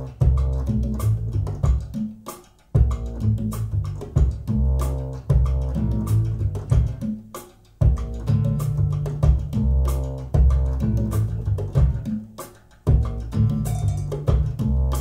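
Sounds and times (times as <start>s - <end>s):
plucked bass notes: 0.0s - 2.0s, 2.8s - 7.1s, 7.8s - 12.2s, 12.9s - 15.0s
jazz guitar: 0.0s - 2.2s, 2.8s - 12.3s, 12.9s - 15.0s.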